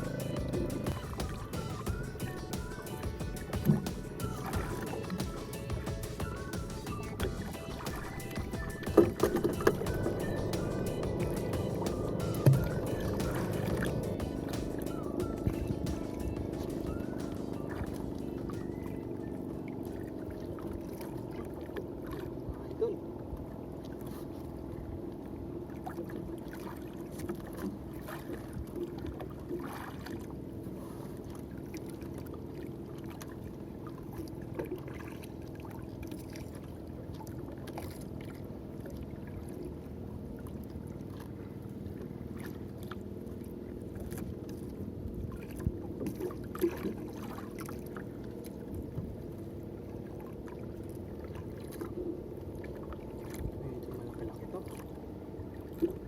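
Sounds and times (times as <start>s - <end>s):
boat engine hum: 0.0s - 56.0s
water noise: 0.0s - 56.0s.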